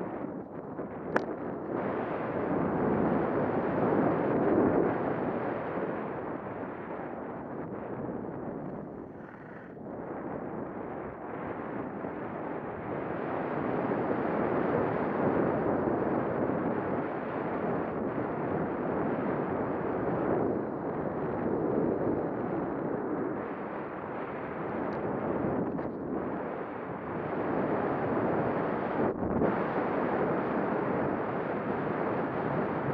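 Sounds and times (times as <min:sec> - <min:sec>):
wind rushing over microphone: 0:00.0 - 0:32.9.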